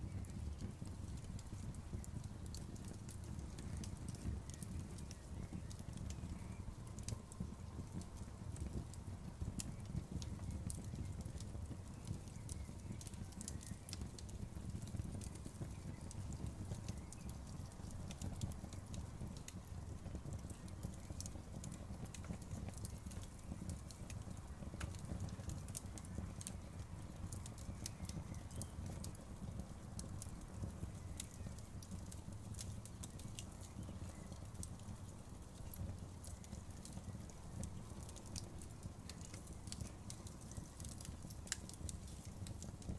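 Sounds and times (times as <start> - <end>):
campfire crackling and popping: 0.0 - 42.9
fire low rumble: 0.0 - 42.9.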